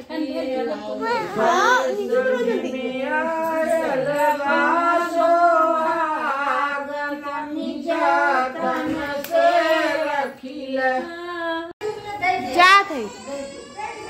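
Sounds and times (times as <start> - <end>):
women singing unaccompanied: 0.0 - 12.4.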